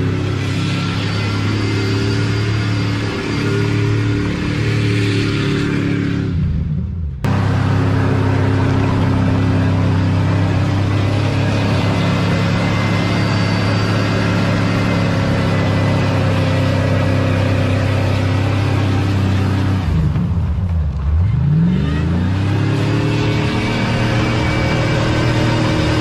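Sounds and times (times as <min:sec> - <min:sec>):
truck engine revving high: 0:00.0 - 0:26.0.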